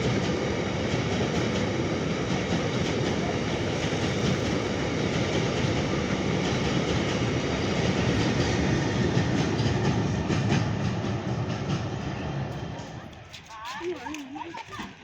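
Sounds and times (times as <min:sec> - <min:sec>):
train wheels clattering over rail joints: 0:00.1 - 0:13.4.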